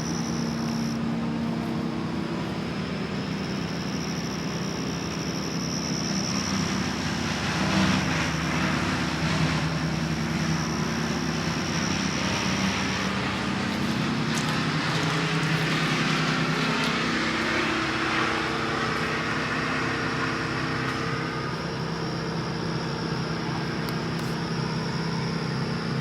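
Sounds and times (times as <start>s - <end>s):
motor rumble with hiss: 0.0s - 26.0s
thin high whine: 0.0s - 26.0s.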